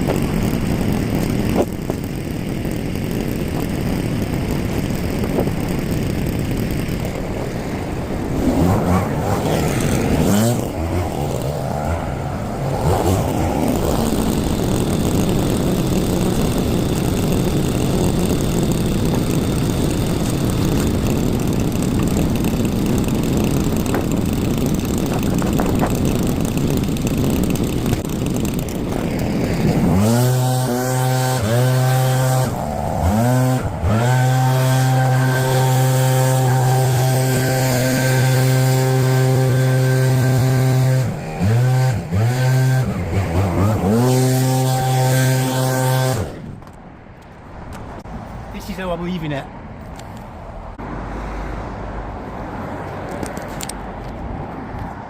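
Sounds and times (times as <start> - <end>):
small two-stroke engine running: 0.0 - 46.8.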